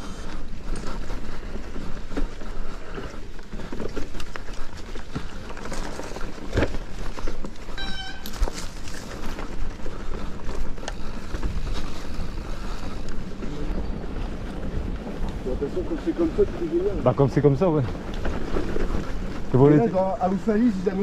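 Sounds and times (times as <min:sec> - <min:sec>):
bike rattles and knocks: 0:00.0 - 0:21.0
bike tyre rumble: 0:00.0 - 0:21.0.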